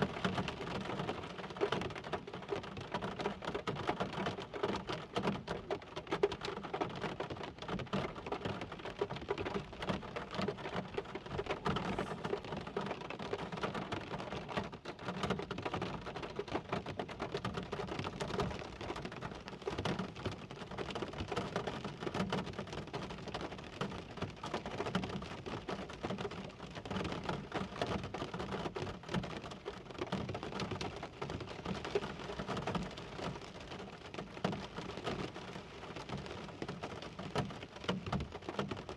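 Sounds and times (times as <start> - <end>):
close raindrop impacts: 0.0 - 38.9
steady rain: 0.0 - 38.9.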